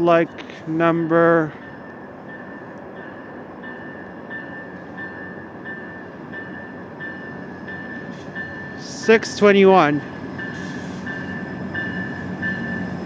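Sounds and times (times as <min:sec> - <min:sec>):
train wheels rumbling: 0:00.3 - 0:13.0.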